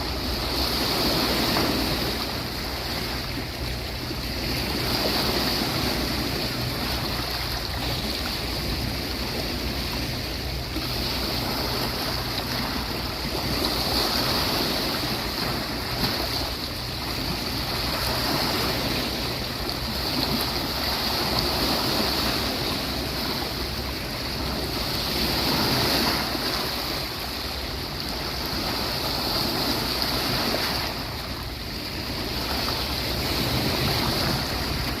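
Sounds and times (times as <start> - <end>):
sea waves washing onto beach: 0.0 - 35.0.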